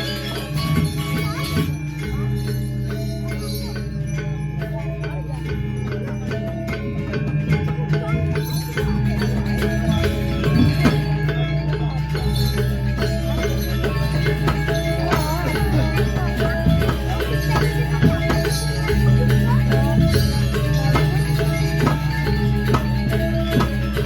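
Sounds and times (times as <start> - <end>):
metallophones and gongs ringing: 0.0 - 24.0.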